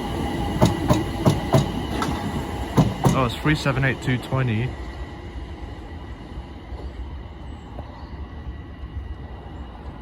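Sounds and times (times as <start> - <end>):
electric train rumble: 0.0 - 10.0
faint train whine: 0.0 - 10.0.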